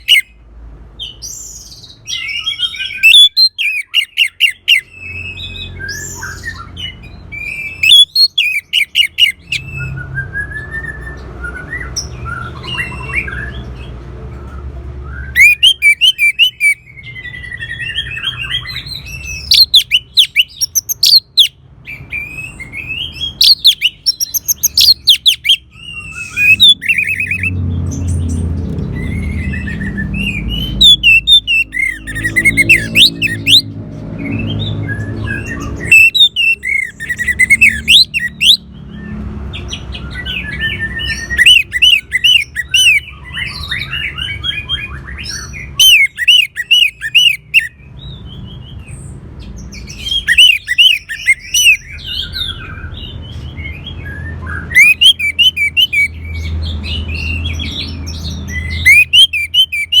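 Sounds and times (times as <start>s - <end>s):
thrush singing whistled notes: 0.0s - 0.4s, 1.0s - 60.0s.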